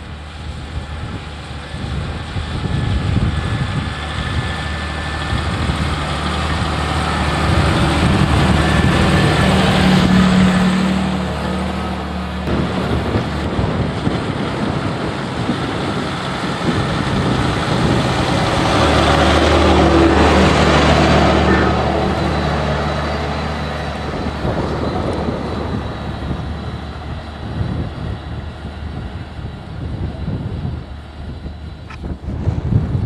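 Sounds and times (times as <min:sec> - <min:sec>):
tractor diesel engine: 0:00.0 - 0:33.0.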